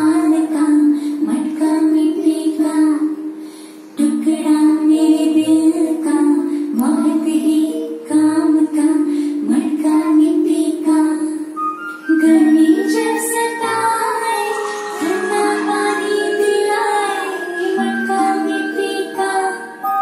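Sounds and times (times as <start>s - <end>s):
child singing: 0.0s - 3.3s, 4.0s - 11.4s, 12.1s - 20.0s
instrumental backing: 0.0s - 20.0s.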